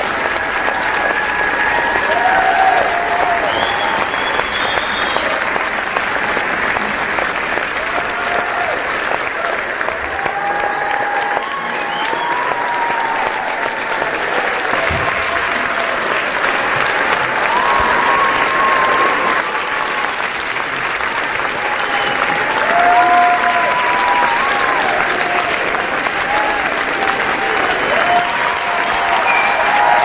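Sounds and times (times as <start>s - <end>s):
crowd applauding: 0.0s - 30.0s.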